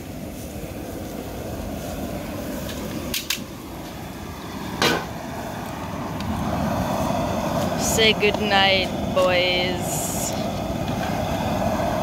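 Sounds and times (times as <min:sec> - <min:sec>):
propane burner running: 0:00.0 - 0:12.0.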